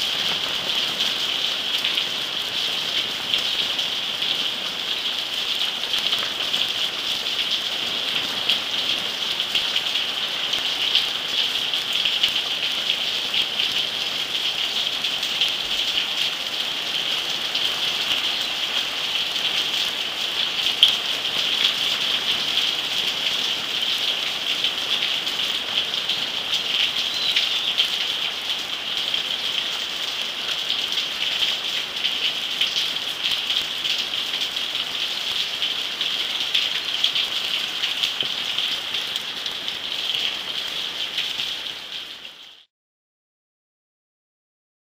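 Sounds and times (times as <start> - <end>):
torrential rain on rooftops: 0.0 - 42.7.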